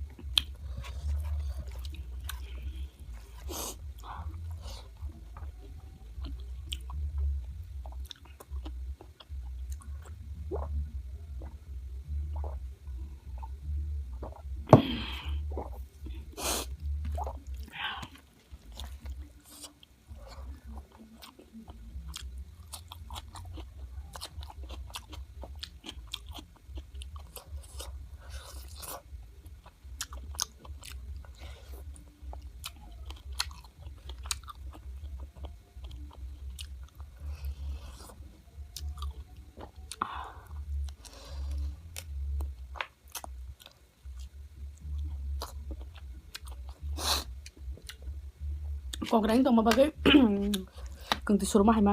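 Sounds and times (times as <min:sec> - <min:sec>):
chewing and crunching: 0:00.0 - 0:11.6, 0:17.0 - 0:51.6
steady low hum: 0:00.0 - 0:51.9.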